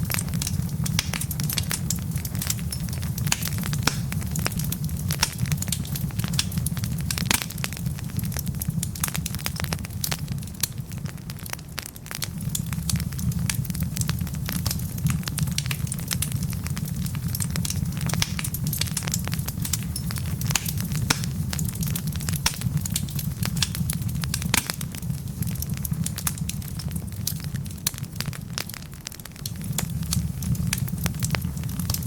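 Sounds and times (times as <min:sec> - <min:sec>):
logs crackling and popping: 0:00.0 - 0:32.0
low rumble of fire flames: 0:00.0 - 0:32.0.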